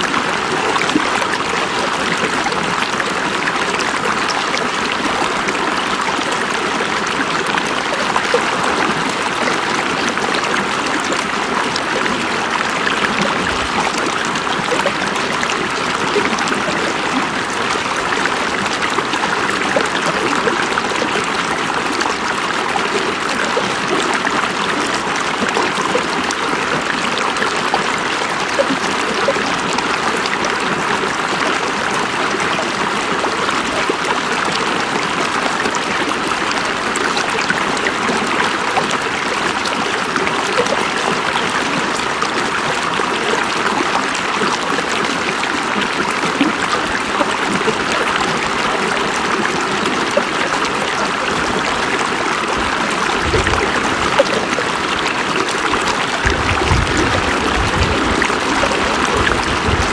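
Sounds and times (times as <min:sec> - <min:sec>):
river water running over rocks: 0:00.0 - 0:59.9.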